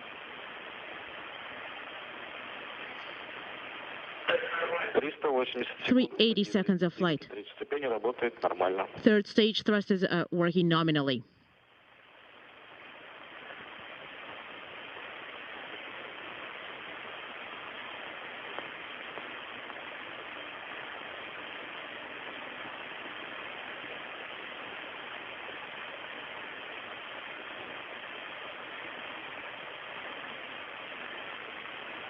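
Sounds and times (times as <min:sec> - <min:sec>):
radio hiss: 0:00.0 - 0:32.0.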